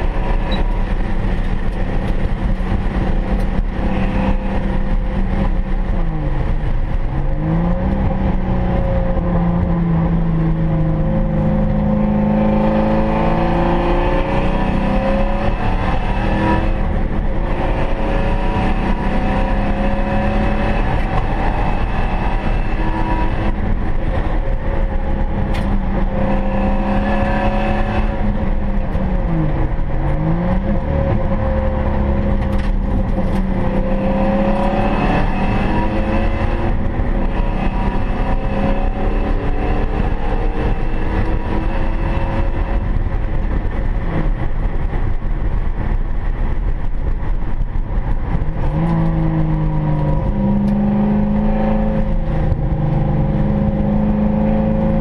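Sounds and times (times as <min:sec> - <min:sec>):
car engine revving: 0:00.0 - 0:55.0
steady rushing noise: 0:00.0 - 0:55.0.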